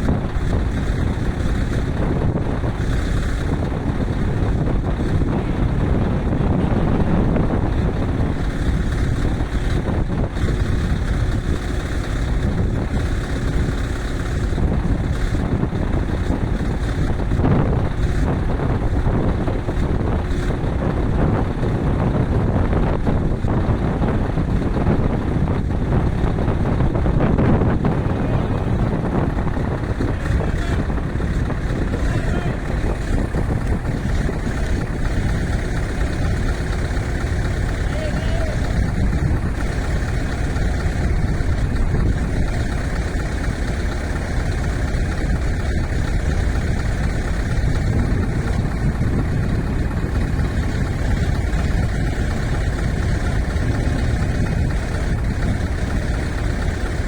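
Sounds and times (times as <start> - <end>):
truck engine rumbling: 0.0 - 57.0
wind on microphone: 0.0 - 57.0.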